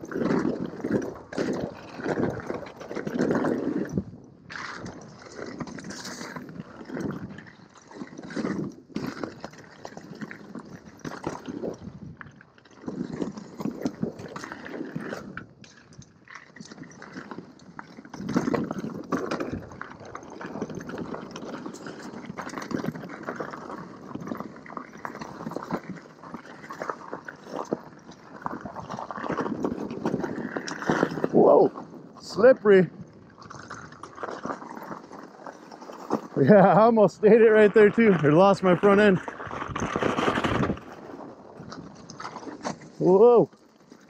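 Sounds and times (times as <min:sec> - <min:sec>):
bike rattling over bumps: 0:00.0 - 0:44.0
bike tyres rolling over dirt: 0:00.0 - 0:44.0.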